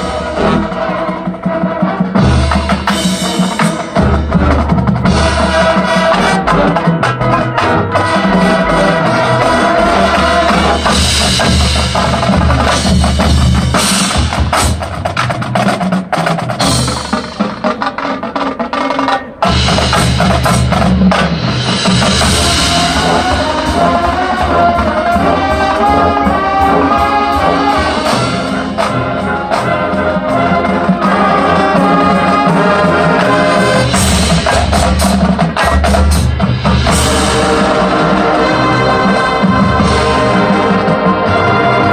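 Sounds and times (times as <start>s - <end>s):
brass band playing: 0.0s - 41.9s
snare and bass drums: 0.0s - 41.9s.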